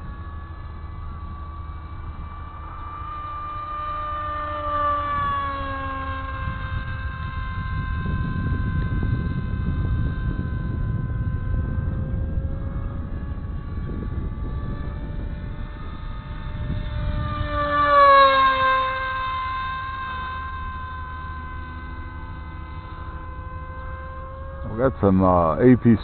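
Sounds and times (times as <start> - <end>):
electric motor and propeller whining: 0.0 - 26.0.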